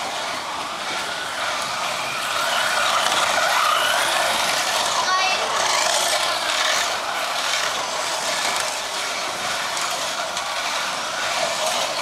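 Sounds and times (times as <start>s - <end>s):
slot cars whirring: 0.0s - 12.0s.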